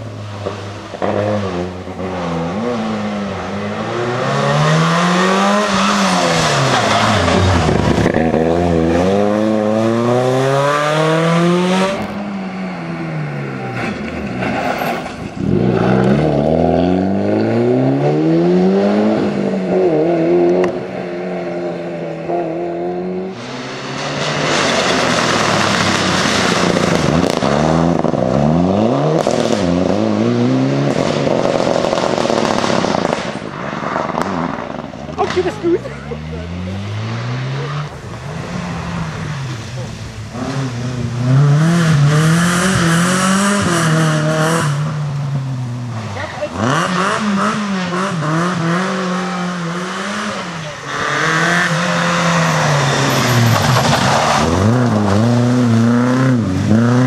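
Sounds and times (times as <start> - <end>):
rally car engines revving hard: 0.0 - 57.0.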